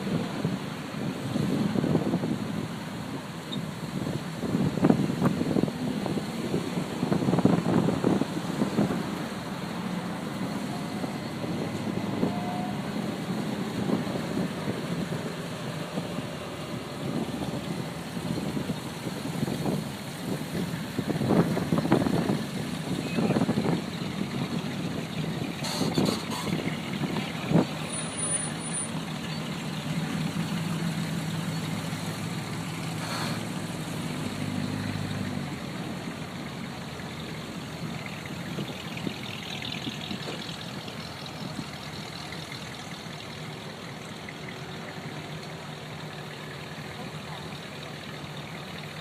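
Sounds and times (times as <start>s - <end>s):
car engines passing: 0.0s - 49.0s.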